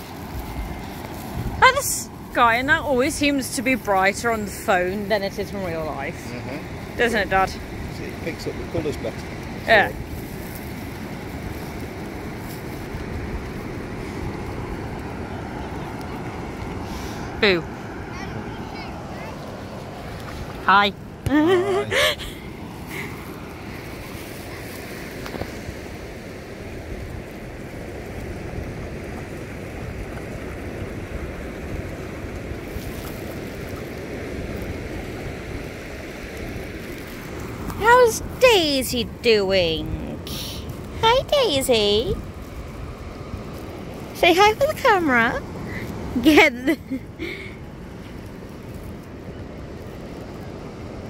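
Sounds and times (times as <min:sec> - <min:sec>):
surf breaking on beach: 0:00.0 - 0:51.0
wind rumbling on microphone: 0:00.0 - 0:51.0.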